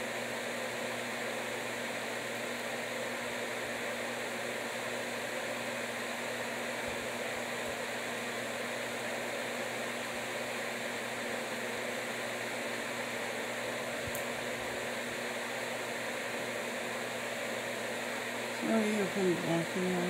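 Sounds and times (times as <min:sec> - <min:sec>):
low electric hum: 0:00.0 - 0:20.0.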